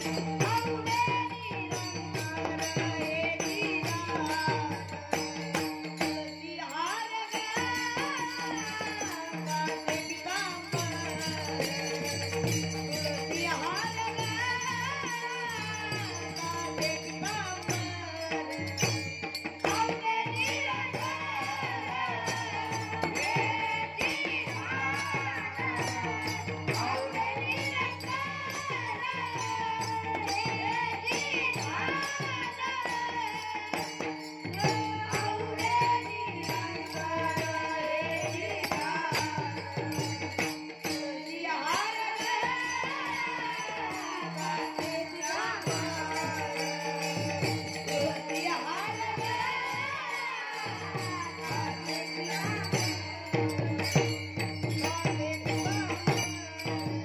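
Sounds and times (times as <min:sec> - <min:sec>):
boy singing: 0:00.0 - 0:57.0
hand cymbals clashing: 0:00.0 - 0:57.0.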